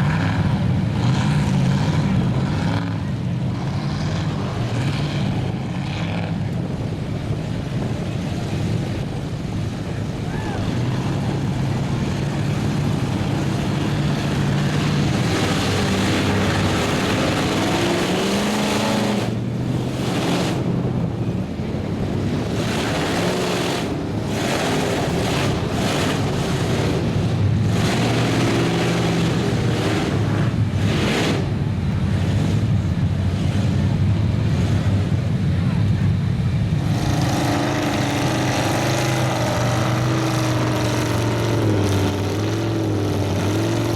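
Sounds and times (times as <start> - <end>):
heavy rushing noise: 0.0 - 43.9
truck engines revving: 0.0 - 43.9.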